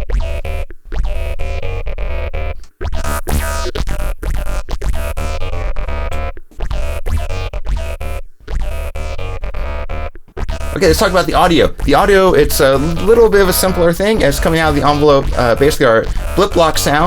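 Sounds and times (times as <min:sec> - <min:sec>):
looping electronic synth pattern: 0:00.0 - 0:17.0.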